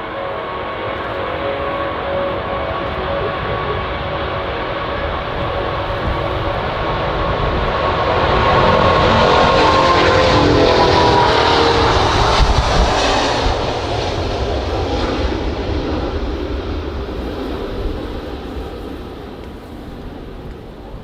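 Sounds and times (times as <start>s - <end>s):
jet engines roaring at takeoff: 0.0s - 21.0s.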